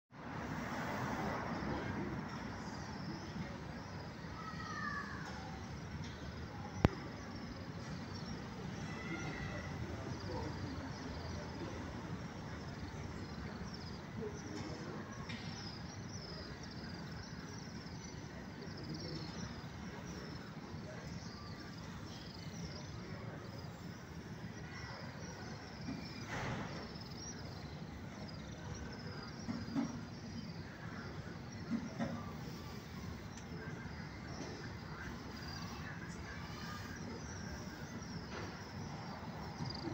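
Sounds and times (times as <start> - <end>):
traffic hum: 0.1 - 39.9.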